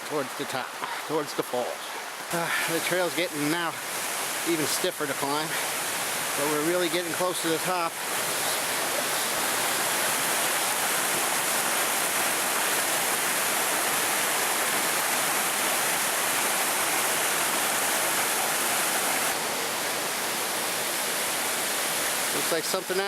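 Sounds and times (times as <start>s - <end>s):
creek rushing over rocks: 0.0s - 23.0s.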